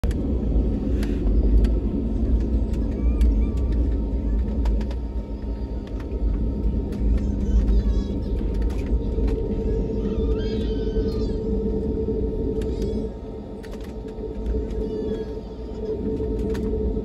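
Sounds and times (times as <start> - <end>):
low rumble of engines and wheels: 0.0 - 17.0.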